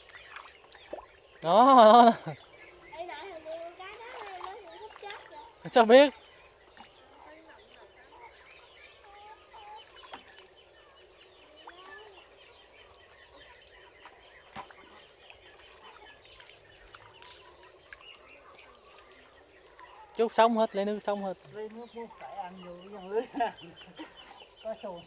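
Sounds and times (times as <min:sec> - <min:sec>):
bird chirps and clucks: 0:00.0 - 0:25.0.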